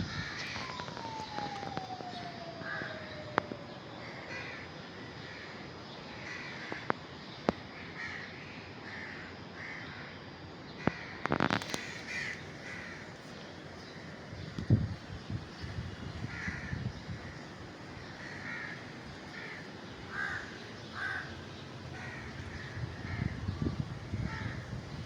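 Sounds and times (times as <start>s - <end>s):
birds calling: 0.0s - 10.1s, 10.7s - 25.0s.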